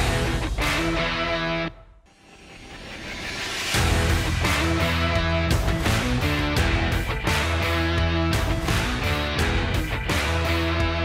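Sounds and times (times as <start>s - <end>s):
electric guitar rock music: 0.0s - 11.0s.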